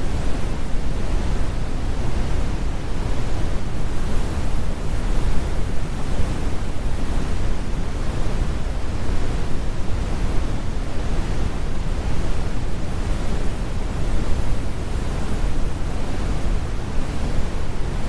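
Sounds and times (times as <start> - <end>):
brown noise rumble: 0.0 - 18.0.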